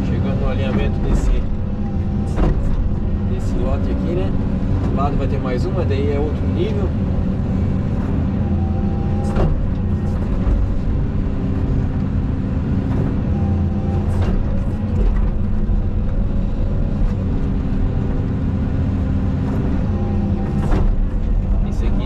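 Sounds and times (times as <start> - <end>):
excavator diesel engine: 0.0 - 22.0
hydraulic whine: 0.0 - 22.0.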